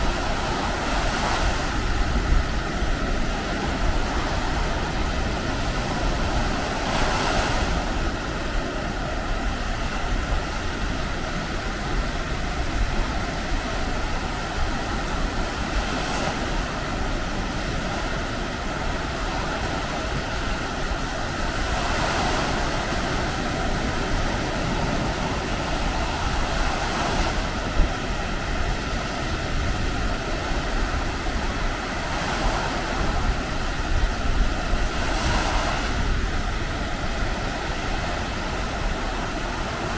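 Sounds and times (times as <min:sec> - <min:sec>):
surf breaking on sandy beach: 0:00.0 - 0:39.9
wind rumble on microphone: 0:00.0 - 0:39.9.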